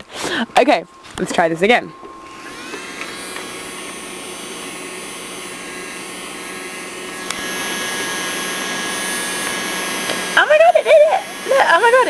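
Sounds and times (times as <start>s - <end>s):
small vacuum motor whirring: 0.0s - 12.0s.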